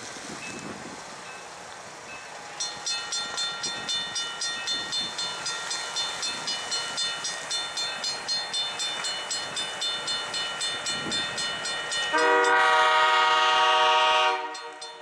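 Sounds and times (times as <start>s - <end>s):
railroad crossing bell ringing: 1.2s - 15.0s.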